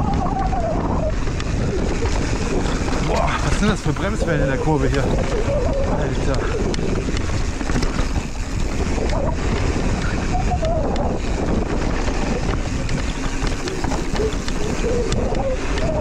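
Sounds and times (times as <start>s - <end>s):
bike clattering over bumps: 0.0s - 16.0s
bike tyres rumbling on gravel: 0.0s - 16.0s
wind on microphone: 0.0s - 16.0s.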